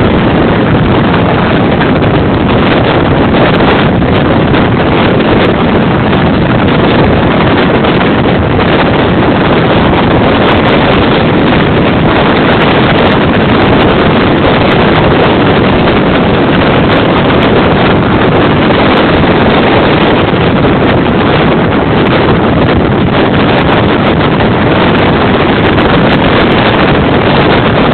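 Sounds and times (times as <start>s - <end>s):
strong wind on microphone: 0.0s - 27.9s.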